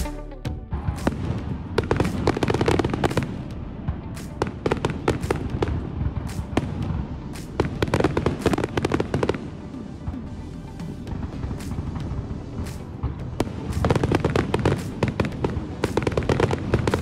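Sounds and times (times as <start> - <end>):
music playing: 0.0 - 17.0
fireworks bursting with bangs and crackles: 0.7 - 17.0.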